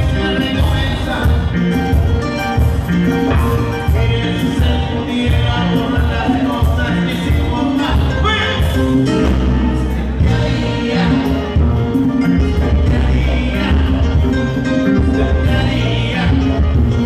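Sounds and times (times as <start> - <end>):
live latin dance band: 0.0 - 17.0
pulsing bass line: 0.0 - 17.0.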